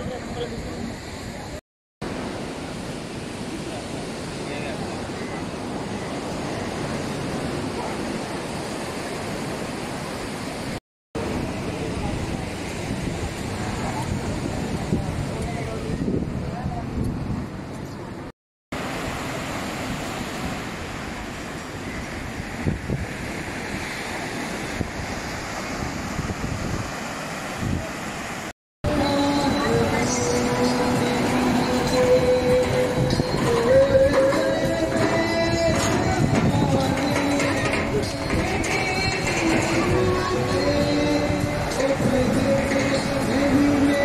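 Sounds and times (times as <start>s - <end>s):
sea surf washing ashore: 0.0s - 44.0s
wind buffeting microphone: 5.6s - 18.3s, 19.7s - 44.0s.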